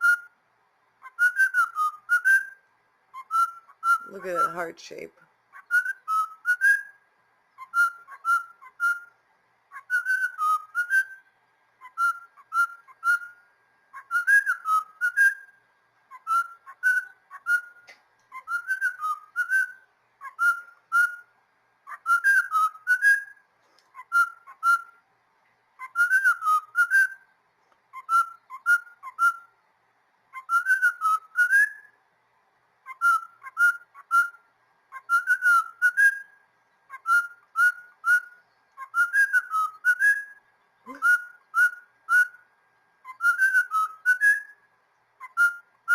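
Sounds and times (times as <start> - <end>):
cockatiel whistling: 0.0 - 0.4, 1.0 - 4.5, 5.5 - 7.0, 7.6 - 11.2, 11.8 - 25.0, 25.8 - 27.3, 27.9 - 29.5, 30.3 - 32.0, 32.8 - 42.4, 43.0 - 44.6, 45.2 - 45.9.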